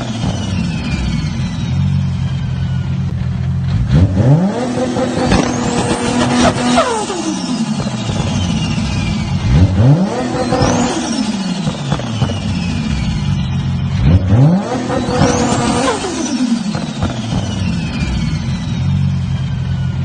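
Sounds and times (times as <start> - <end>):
high turbo whine: 0.0 - 20.0
car engine revving hard: 3.6 - 19.9.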